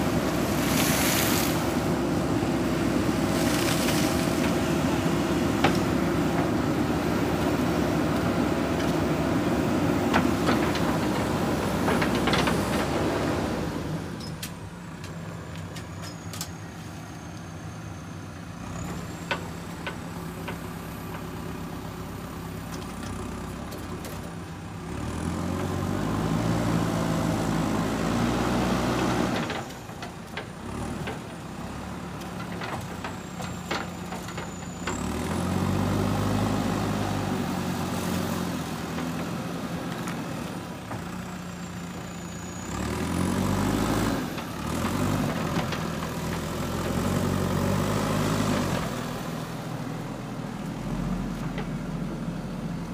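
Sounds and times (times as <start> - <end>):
diesel engine idling and revving: 0.0 - 52.9.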